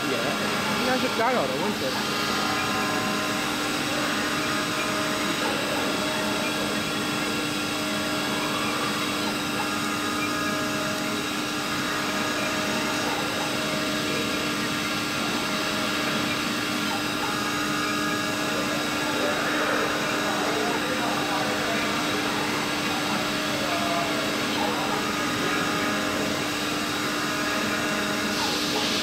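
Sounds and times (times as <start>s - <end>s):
cnc spindle whine: 0.0s - 29.0s
machine hum: 0.0s - 29.0s.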